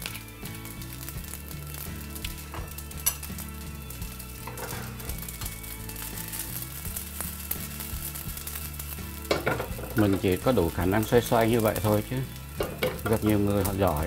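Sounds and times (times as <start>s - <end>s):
rice sizzling in frying pan: 0.0s - 14.0s.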